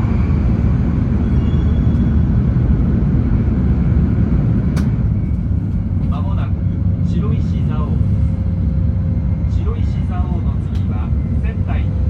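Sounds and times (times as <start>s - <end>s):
train rumble inside cabin: 0.0s - 12.0s.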